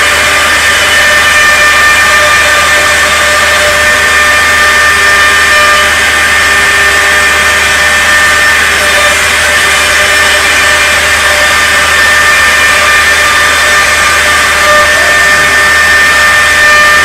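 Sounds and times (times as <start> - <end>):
machine spindle cutting wood: 0.0 - 17.0.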